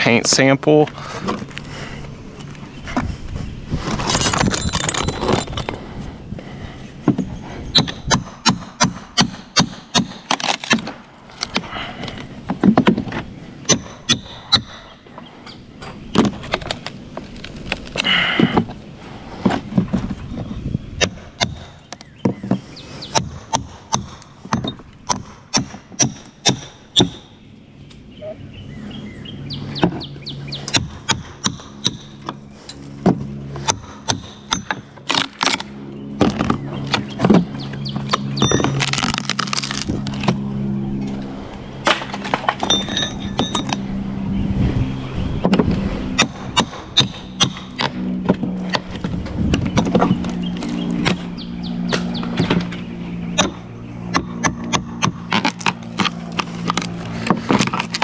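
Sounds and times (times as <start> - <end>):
wood cracking and splitting: 3.8 - 14.9, 15.8 - 27.3, 30.7 - 43.8, 45.4 - 52.8, 53.4 - 58.0.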